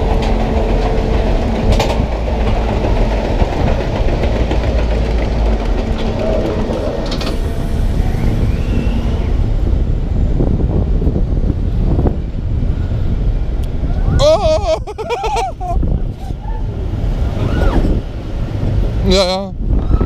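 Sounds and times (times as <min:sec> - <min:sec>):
roller coaster lift rumble: 0:00.0 - 0:20.0.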